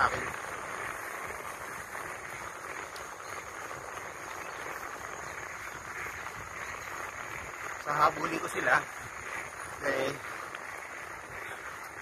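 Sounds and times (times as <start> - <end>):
tyre hiss on pavement: 0.0 - 12.0
wind: 0.0 - 12.0.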